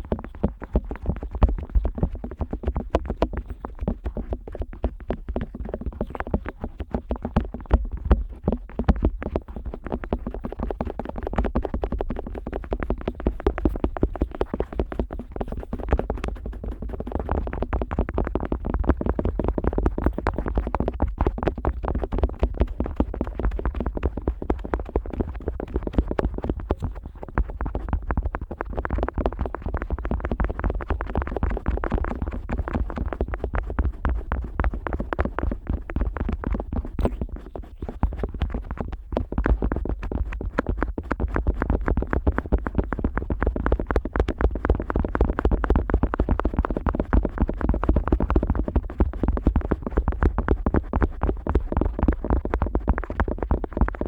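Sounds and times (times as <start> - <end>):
scratchy crackles on microphone: 0.0 - 54.0.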